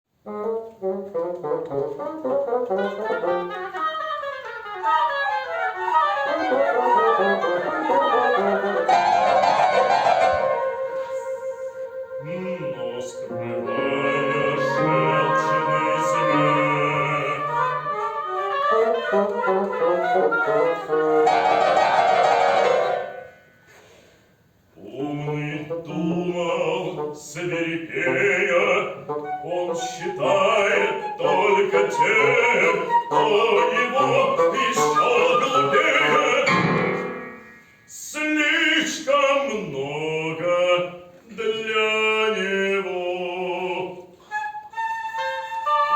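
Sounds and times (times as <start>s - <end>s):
oboe: 0.2s - 23.8s, 24.9s - 37.7s, 42.3s - 45.9s
bassoon: 0.2s - 24.0s, 24.8s - 41.3s, 42.0s - 45.9s
flute: 0.2s - 24.2s, 25.6s - 37.8s, 43.6s - 45.9s.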